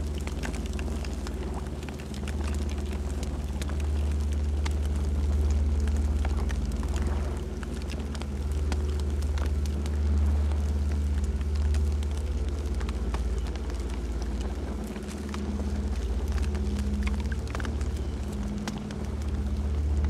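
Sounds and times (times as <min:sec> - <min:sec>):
campfire crackling and popping: 0:00.0 - 0:20.0
low rumble of fire: 0:00.0 - 0:20.0.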